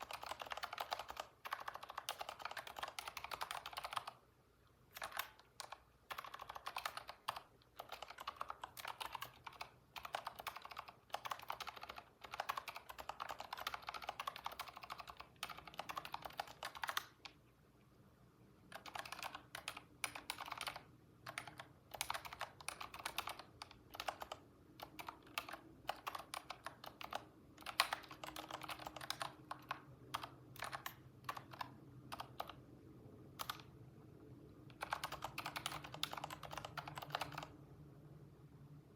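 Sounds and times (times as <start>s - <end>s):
typing on computer keyboard: 0.0s - 4.2s, 4.9s - 17.4s, 18.7s - 32.6s, 33.4s - 33.7s, 34.7s - 37.6s.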